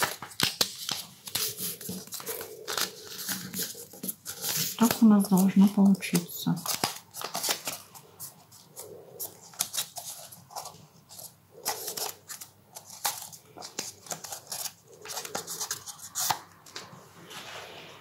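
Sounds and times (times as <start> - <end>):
stiff paper rustling and crinkling: 0.0 - 17.8.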